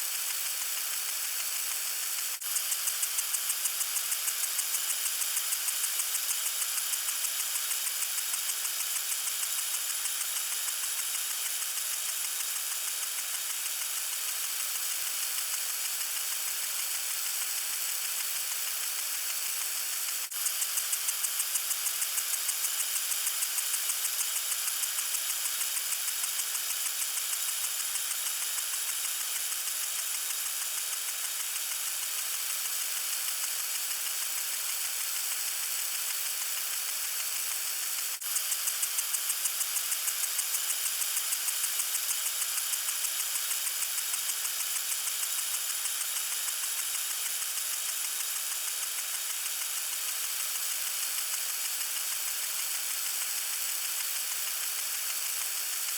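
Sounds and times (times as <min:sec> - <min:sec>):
water sprinkler spraying: 0:00.0 - 0:55.9.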